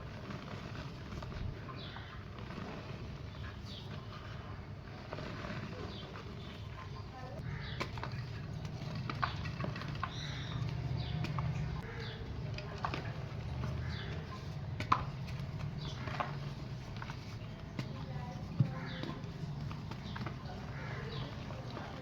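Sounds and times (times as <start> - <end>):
clay pots crushed and cracking: 0.0 - 22.0.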